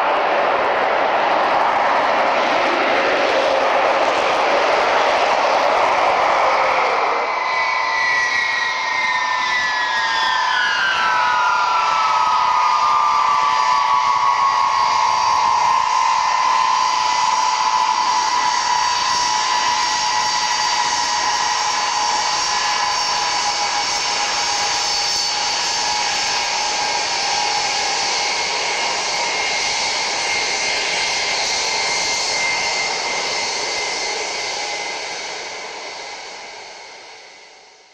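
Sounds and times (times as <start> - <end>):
loud jet rush: 0.0 - 36.6
jet engine whine: 0.0 - 37.9.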